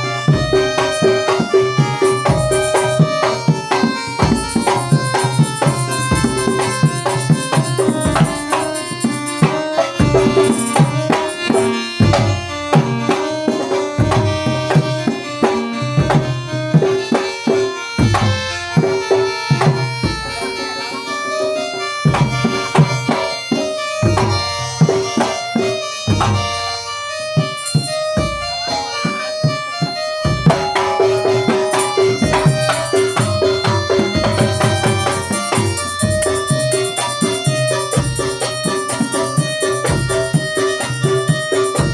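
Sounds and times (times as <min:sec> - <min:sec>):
hand drums playing rhythm: 0:00.0 - 0:41.9
held melody line: 0:00.0 - 0:41.9.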